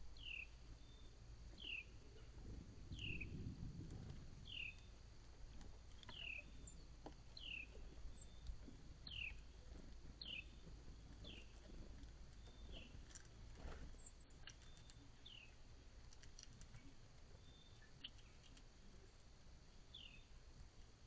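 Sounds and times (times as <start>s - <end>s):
faint low background rumble: 0.0s - 21.0s.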